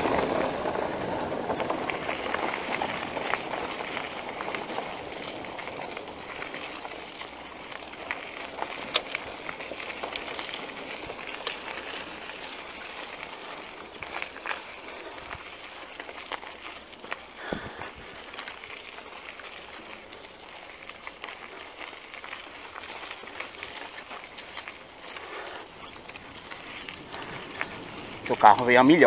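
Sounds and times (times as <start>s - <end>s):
bike clicks and rattles: 0.0s - 29.0s
bike tyres rolling on gravel: 0.0s - 29.0s.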